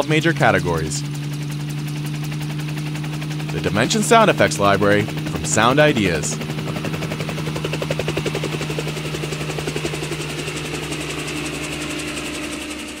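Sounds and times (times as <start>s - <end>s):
low steady hum: 0.0s - 13.0s
pulsing machine drone: 0.0s - 13.0s.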